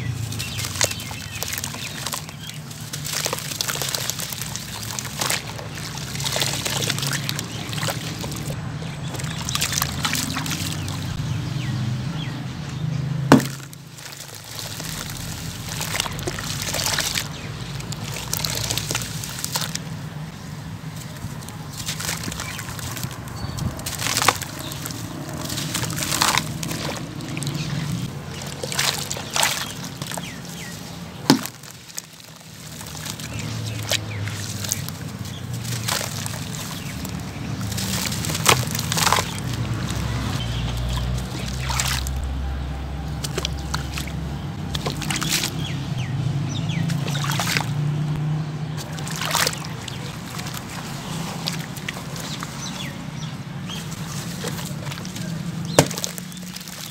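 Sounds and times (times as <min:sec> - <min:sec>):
crumbs splashing into water: 0:00.0 - 0:11.3, 0:13.2 - 0:56.9
cement lumps crunching: 0:00.0 - 0:56.9
hands sloshing in mud: 0:00.0 - 0:56.9.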